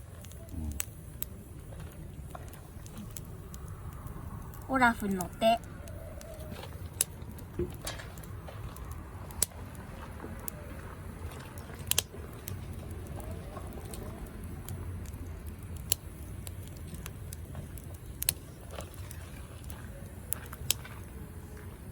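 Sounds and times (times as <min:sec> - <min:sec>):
fire low rumble: 0:00.0 - 0:21.9
wood crackling and popping: 0:00.0 - 0:21.9.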